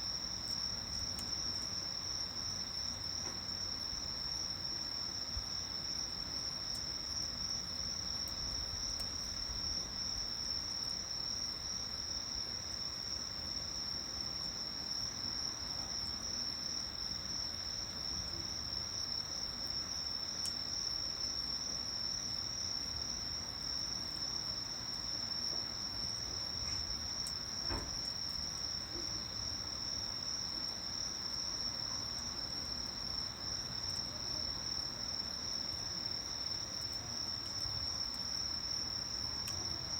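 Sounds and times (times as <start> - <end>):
insects trilling: 4.3 - 39.9.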